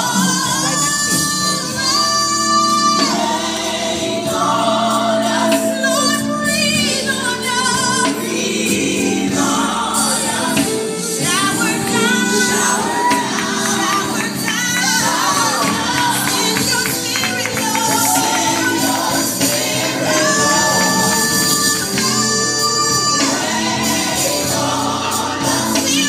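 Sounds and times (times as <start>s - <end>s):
backing music: 0.0s - 26.0s
gospel choir singing: 0.0s - 26.0s.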